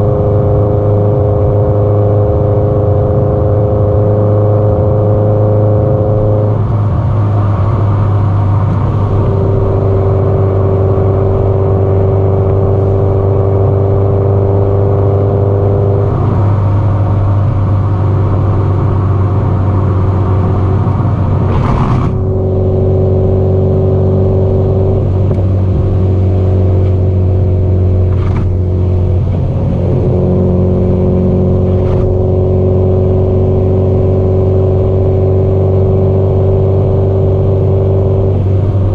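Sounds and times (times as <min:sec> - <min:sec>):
car exhaust drone: 0:00.0 - 0:38.9.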